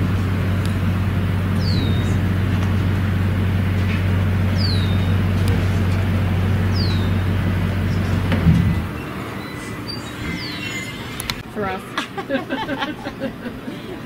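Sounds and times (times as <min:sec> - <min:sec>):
vehicle engine idling: 0:00.0 - 0:11.5.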